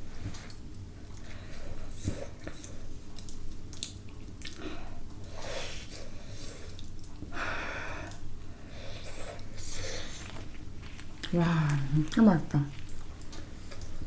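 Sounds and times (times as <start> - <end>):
chewing soft food: 0.0 - 7.4, 8.0 - 14.0.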